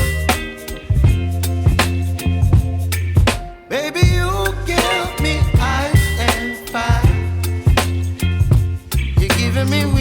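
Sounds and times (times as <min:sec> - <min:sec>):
music with beat and deep bass: 0:00.0 - 0:10.0.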